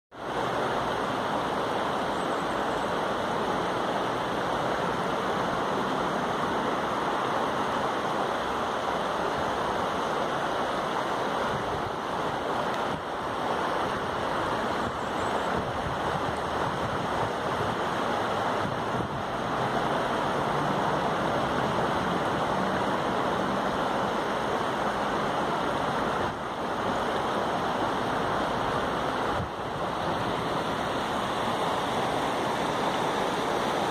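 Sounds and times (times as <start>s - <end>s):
river water rushing over rocks: 0.1s - 33.9s.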